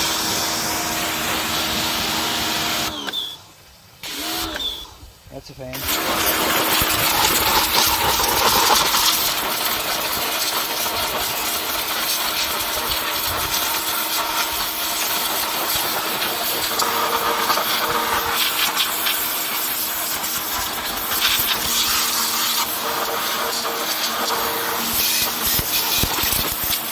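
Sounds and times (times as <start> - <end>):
pump motor humming: 0.0 - 5.0, 5.7 - 26.9
water spray hissing: 0.0 - 26.9.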